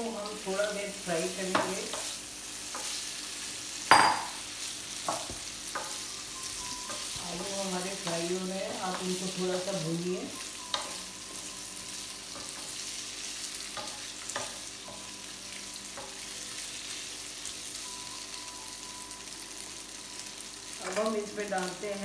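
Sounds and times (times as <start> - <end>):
potatoes sizzling in hot oil: 0.0 - 22.0.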